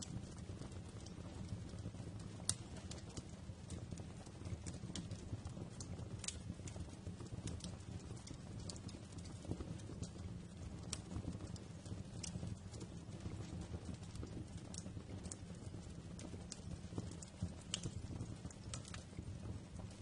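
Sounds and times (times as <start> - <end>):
low rumble of burning logs: 0.0 - 20.0
wood fire crackling and popping: 0.0 - 20.0.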